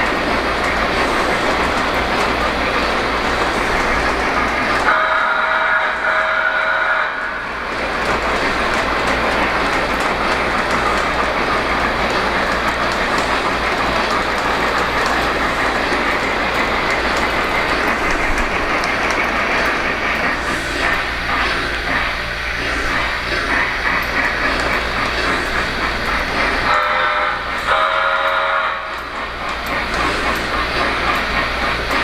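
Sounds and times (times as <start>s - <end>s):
wheels clicking over rail joints: 0.0s - 4.9s, 7.6s - 32.0s
model train rolling rumble: 0.0s - 32.0s.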